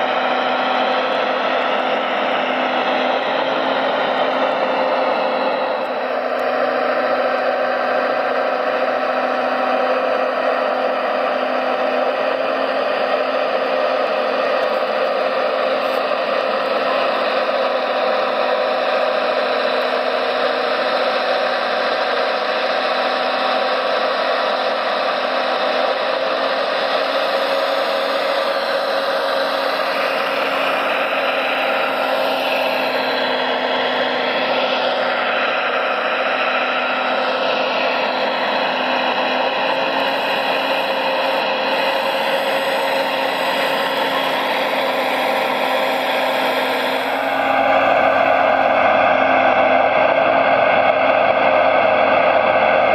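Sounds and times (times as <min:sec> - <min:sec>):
small electric motors whirring: 0:00.0 - 0:48.4.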